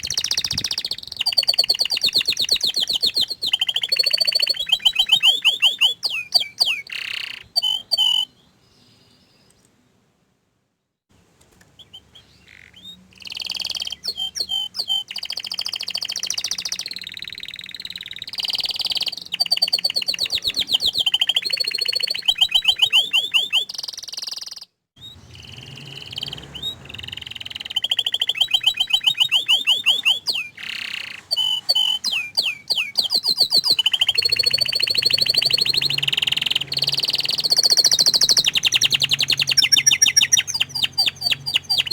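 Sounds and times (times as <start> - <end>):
canary singing trills: 0.0 - 9.6, 11.7 - 41.9.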